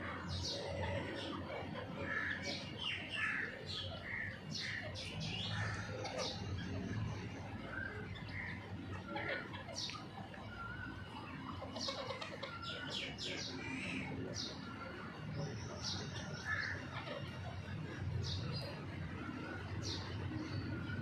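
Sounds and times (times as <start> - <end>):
chicks peeping: 0.0 - 21.0
hens calling softly: 0.0 - 21.0.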